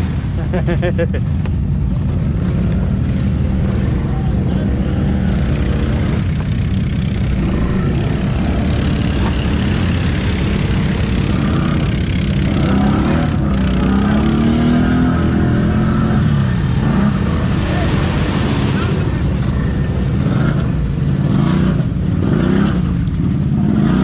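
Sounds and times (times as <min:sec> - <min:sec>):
atv engine running and revving: 0:00.0 - 0:24.0.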